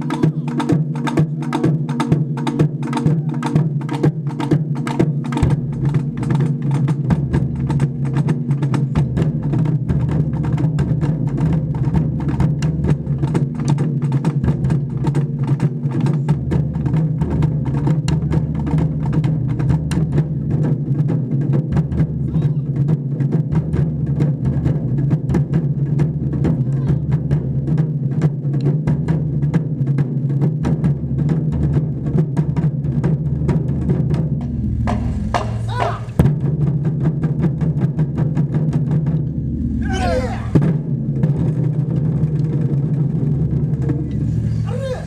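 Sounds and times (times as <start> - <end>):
deep drum boom: 0.0 - 45.0
fast drum strokes: 0.0 - 45.0.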